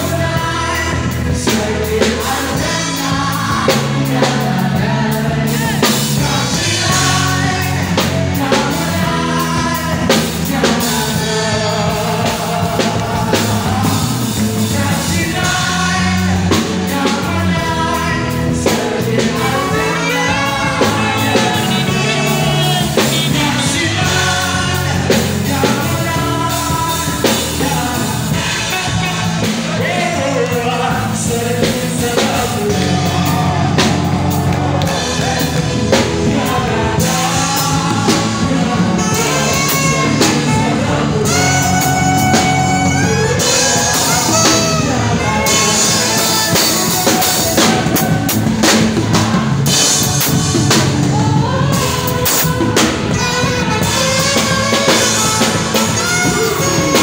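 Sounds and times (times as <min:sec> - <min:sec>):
band playing: 0:00.0 - 0:57.0
drum kit: 0:00.0 - 0:57.0
man singing through a pa: 0:00.0 - 0:57.0.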